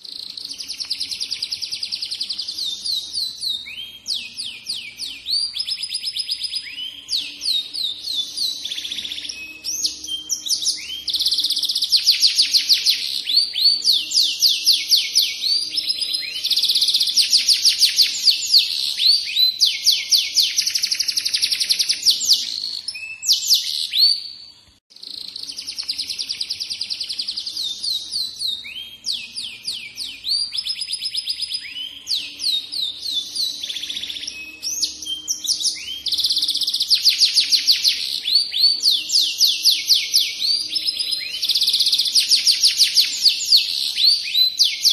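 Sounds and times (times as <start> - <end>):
canary singing trills: 0.0 - 44.9.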